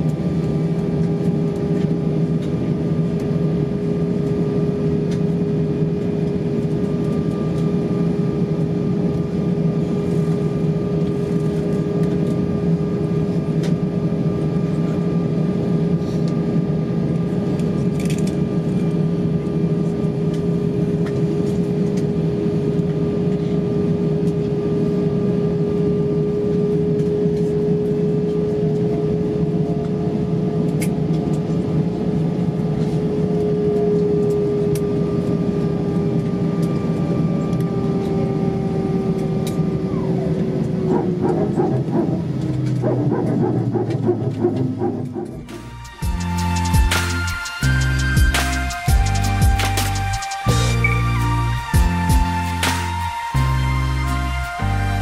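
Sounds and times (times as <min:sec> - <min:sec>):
aircraft cabin drone: 0:00.0 - 0:55.0.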